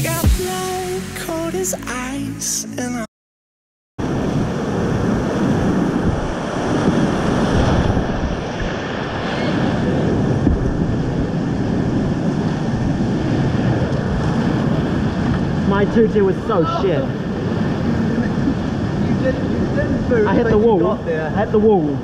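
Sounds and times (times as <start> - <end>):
whitewater rushing and churning: 4.0 - 22.0
wind buffeting microphone: 4.0 - 22.0.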